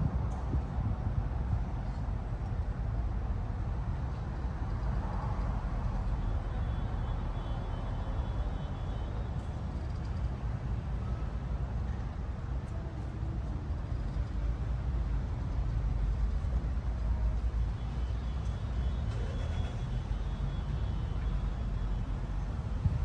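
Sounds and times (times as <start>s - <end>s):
rumble of passing vehicles: 0.0s - 23.0s.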